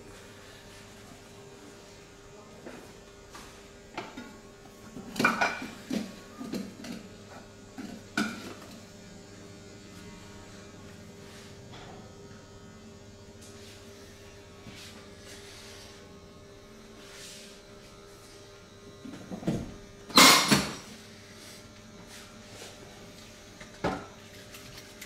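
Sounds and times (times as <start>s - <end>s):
low electric hum: 0.0s - 25.0s.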